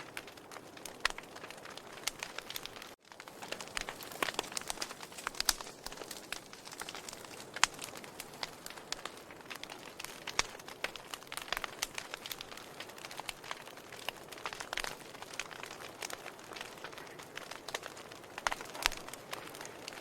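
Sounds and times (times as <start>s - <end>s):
logs crackling in fireplace: 0.0s - 20.0s.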